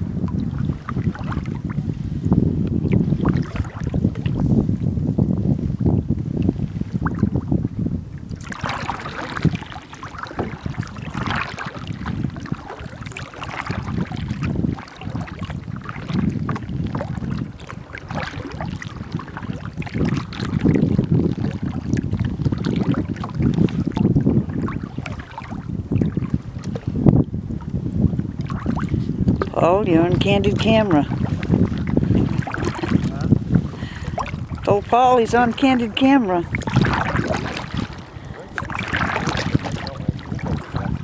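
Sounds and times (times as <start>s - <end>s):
water splashing against kayak hull: 0.0s - 41.0s
wind rumbling on microphone: 0.0s - 41.0s.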